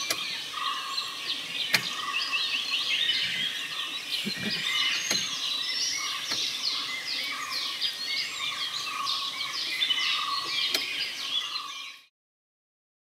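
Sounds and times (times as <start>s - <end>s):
birds chirping and whistling: 0.0s - 12.1s
steady higher bird call: 0.0s - 12.1s.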